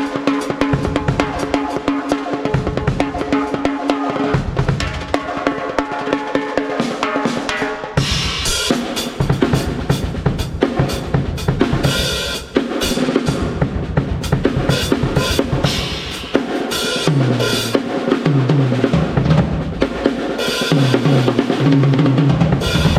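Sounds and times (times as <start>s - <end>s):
kick and snare groove: 0.0s - 22.9s.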